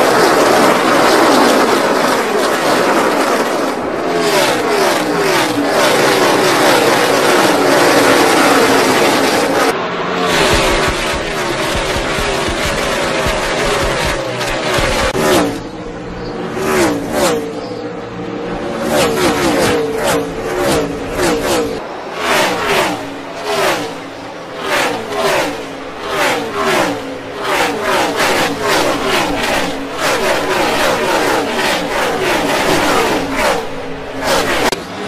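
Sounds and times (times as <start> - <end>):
race cars passing at full speed: 0.0 - 35.0.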